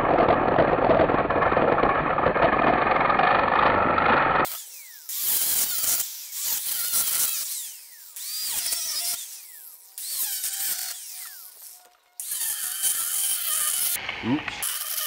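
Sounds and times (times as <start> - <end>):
angle grinder cutting steel: 2.5 - 15.0.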